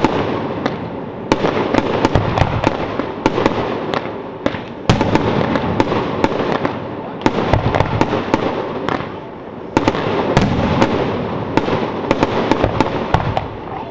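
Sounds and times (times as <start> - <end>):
fireworks bangs and crackling: 0.0 - 13.9.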